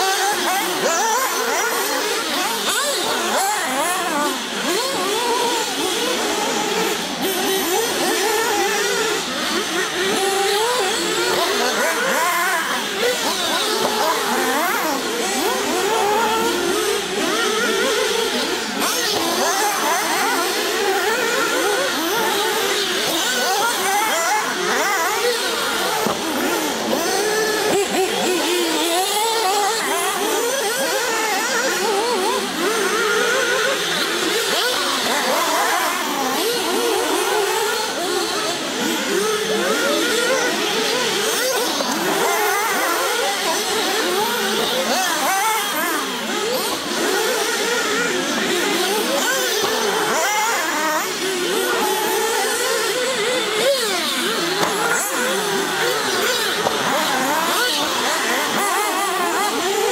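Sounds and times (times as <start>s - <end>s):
rc car engines revving: 0.0s - 59.9s.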